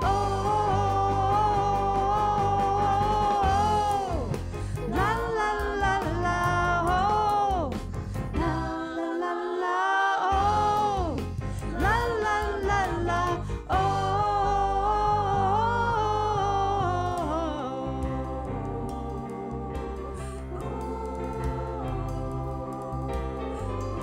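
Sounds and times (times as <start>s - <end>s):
bass guitar: 0.0s - 8.8s, 10.3s - 24.0s
drums: 0.0s - 9.0s, 10.3s - 24.0s
piano: 0.0s - 24.0s
women backing singers: 0.0s - 24.0s.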